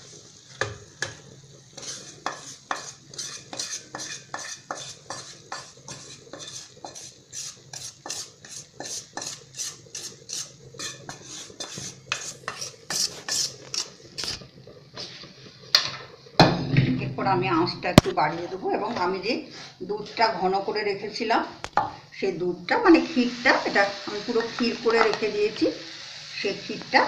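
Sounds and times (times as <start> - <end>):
spatula scraping a pan: 0.0 - 16.2, 18.3 - 20.5, 23.0 - 27.0.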